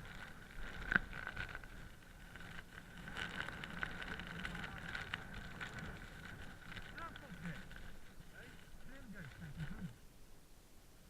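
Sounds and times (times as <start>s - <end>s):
skis running over snow: 0.0s - 10.0s.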